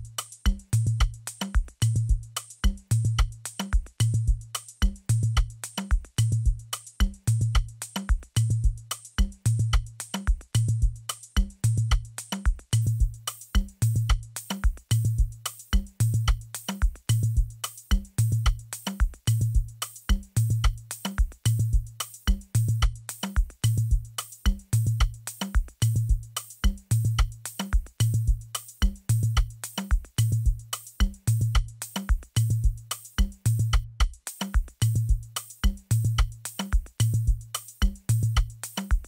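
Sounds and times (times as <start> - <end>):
programmed drum beat loop: 0.0 - 39.0.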